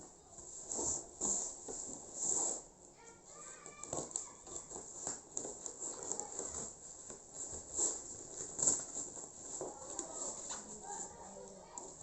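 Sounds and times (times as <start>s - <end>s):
rustling with taps and clicks: 0.1s - 12.0s.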